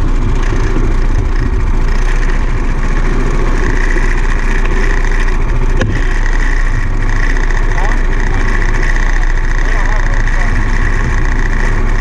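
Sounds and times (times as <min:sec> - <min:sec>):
heavy vehicle engine rumbling: 0:00.0 - 0:12.0
high whine: 0:00.0 - 0:12.0.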